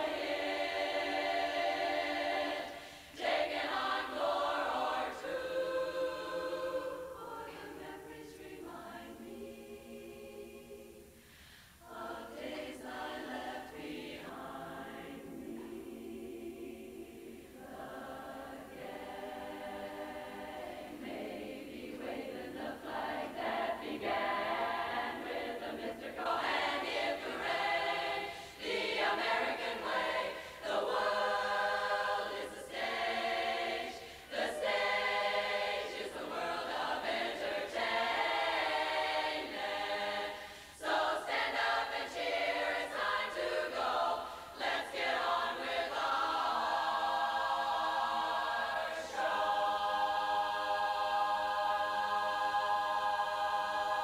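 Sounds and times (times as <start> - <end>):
women's chorus singing a cappella: 0.0 - 54.0.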